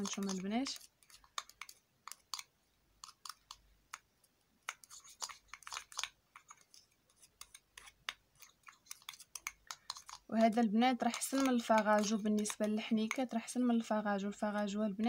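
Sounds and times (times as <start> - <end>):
wet paste scraping: 0.0 - 3.6, 4.6 - 13.4.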